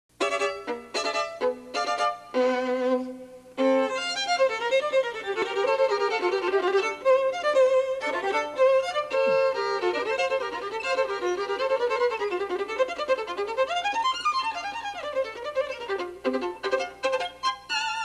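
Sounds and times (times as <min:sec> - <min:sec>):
solo violin playing: 0:00.2 - 0:18.0.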